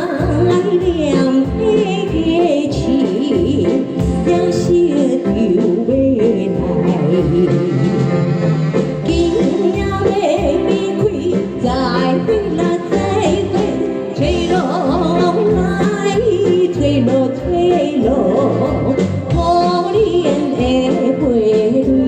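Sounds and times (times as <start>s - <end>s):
backing music: 0.0s - 22.0s
person singing with vibrato: 0.0s - 22.0s.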